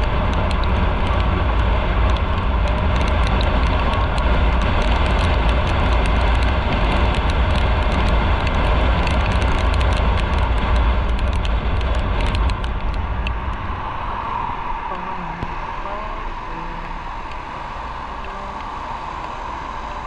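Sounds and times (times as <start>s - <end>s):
motorcycle running: 0.0s - 13.6s, 14.9s - 20.0s
wind rumbling on microphone: 0.0s - 20.0s.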